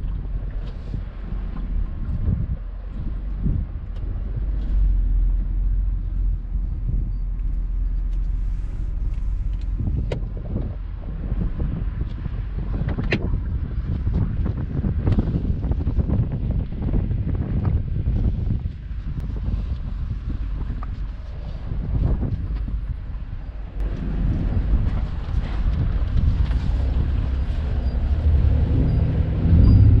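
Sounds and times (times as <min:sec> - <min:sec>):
vehicle engine and tyres rumbling: 0:00.0 - 0:30.0
wind buffeting microphone: 0:00.0 - 0:30.0.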